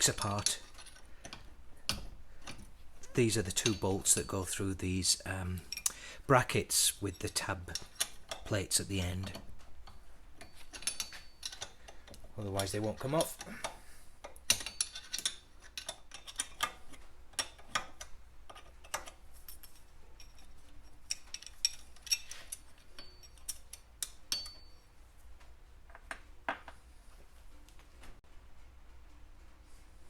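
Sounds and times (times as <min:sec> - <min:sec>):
hand tools clinking on steel bolts: 0:00.0 - 0:25.0.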